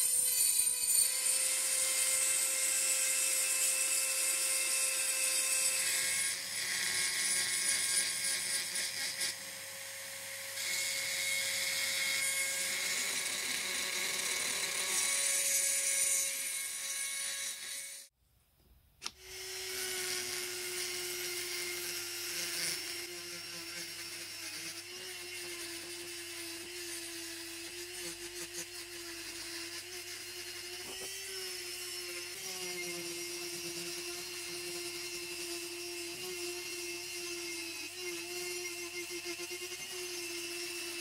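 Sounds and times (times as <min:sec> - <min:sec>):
rotary tool sanding cast iron: 0:00.0 - 0:09.5, 0:10.1 - 0:18.1, 0:19.3 - 0:41.0.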